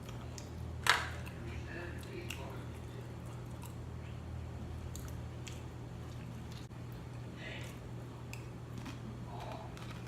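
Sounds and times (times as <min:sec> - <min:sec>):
chewing and biting food: 0:00.0 - 0:10.0
steady low hum: 0:00.0 - 0:10.0.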